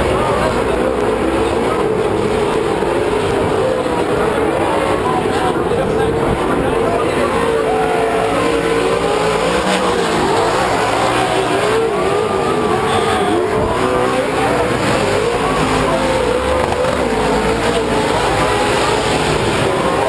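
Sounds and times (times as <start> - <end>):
race truck engines revving: 0.0 - 20.0.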